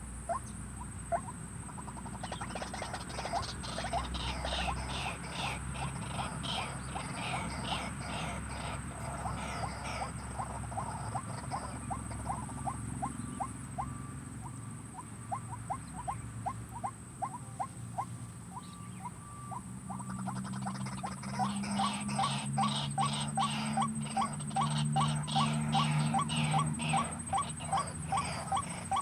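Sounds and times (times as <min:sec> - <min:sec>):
high insect whine: 0:00.0 - 0:29.0.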